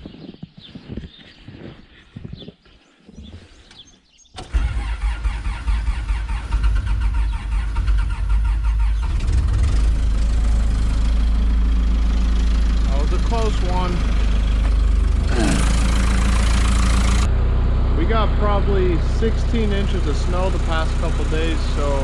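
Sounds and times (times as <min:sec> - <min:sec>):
forklift engine starting and idling: 0:04.3 - 0:22.0.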